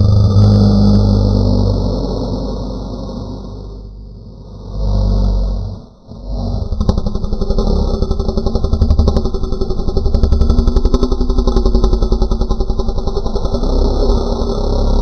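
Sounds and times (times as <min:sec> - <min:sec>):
pulsing motor drone: 0:00.0 - 0:15.0.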